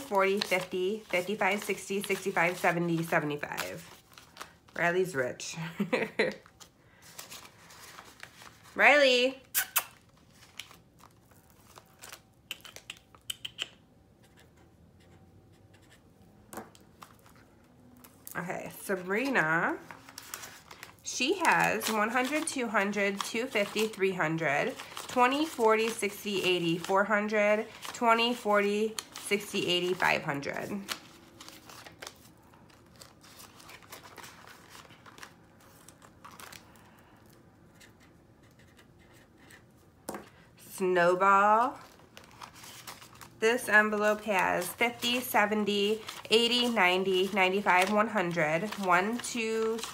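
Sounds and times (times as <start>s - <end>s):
paper rustle: 0.0s - 4.9s, 5.9s - 9.0s, 9.9s - 12.8s, 16.6s - 40.4s, 41.6s - 49.9s.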